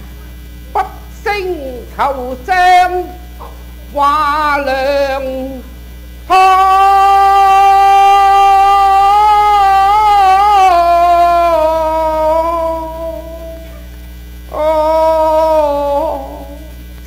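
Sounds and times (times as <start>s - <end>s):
electrical mains hum: 0.0s - 17.0s
man singing held notes with vibrato: 0.7s - 17.0s.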